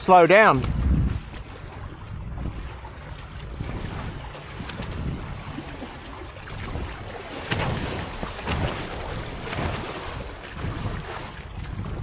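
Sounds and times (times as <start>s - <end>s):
water slapping against boat hulls: 0.0s - 12.0s.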